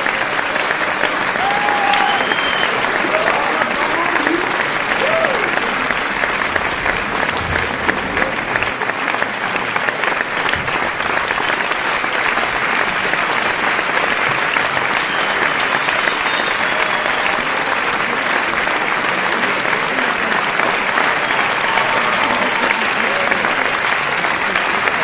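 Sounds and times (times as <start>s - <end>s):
crowd applauding: 0.0s - 25.0s.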